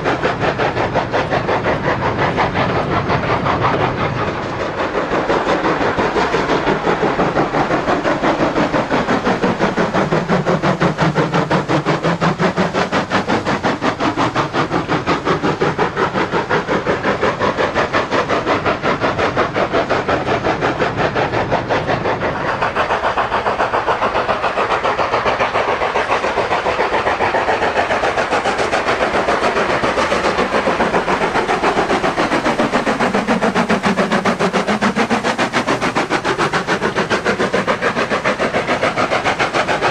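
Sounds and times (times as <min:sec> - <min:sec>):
model train wheels clicking: 0:00.0 - 0:39.9.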